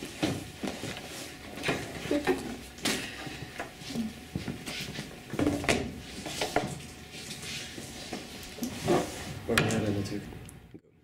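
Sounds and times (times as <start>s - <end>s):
desks and chairs being handled: 0.0s - 6.8s, 8.0s - 10.1s.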